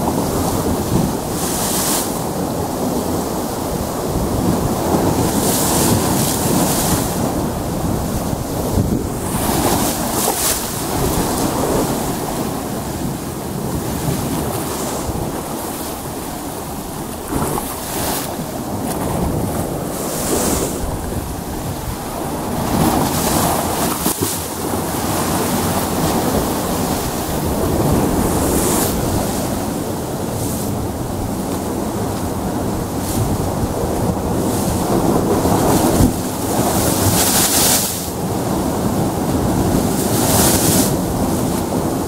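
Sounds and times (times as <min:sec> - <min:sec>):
surf rushing on rocky shore: 0:00.0 - 0:42.0
waves breaking and hissing: 0:00.0 - 0:42.0.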